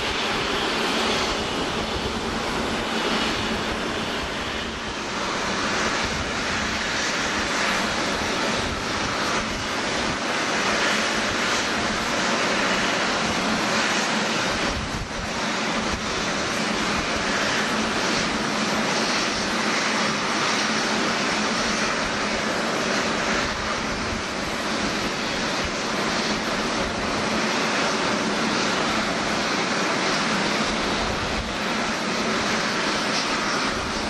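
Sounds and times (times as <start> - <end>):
jet engines rushing hiss: 0.0 - 34.0.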